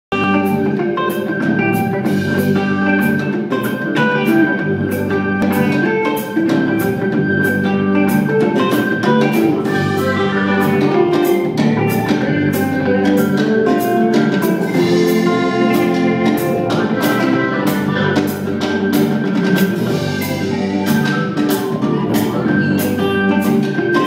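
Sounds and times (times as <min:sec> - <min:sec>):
band playing live: 0:00.1 - 0:24.0
keyboard chords: 0:00.1 - 0:24.0.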